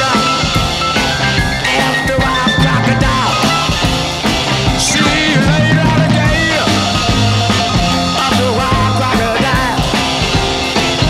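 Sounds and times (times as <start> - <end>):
rock and roll band playing: 0.0 - 11.0.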